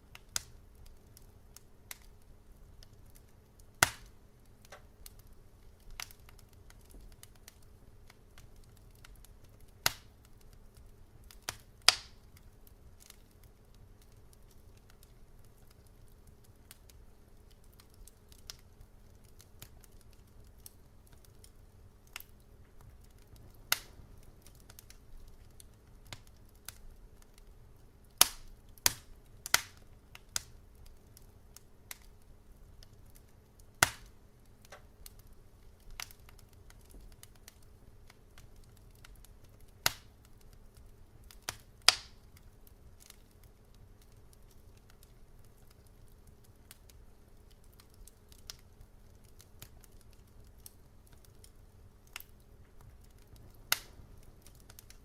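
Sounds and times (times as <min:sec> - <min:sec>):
faint low hum: 0:00.0 - 0:55.0
wood fire crackling: 0:00.0 - 0:55.0.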